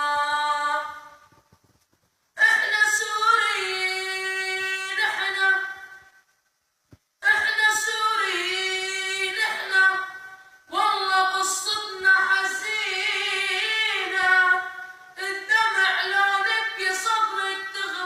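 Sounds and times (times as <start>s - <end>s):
person singing unaccompanied: 0.0s - 1.5s, 2.4s - 6.2s, 7.2s - 18.0s.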